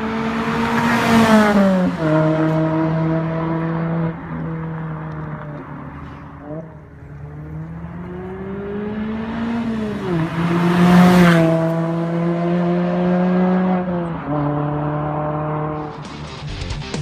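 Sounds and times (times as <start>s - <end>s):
car engine driving by: 0.0s - 17.0s
road and wind noise: 0.0s - 17.0s.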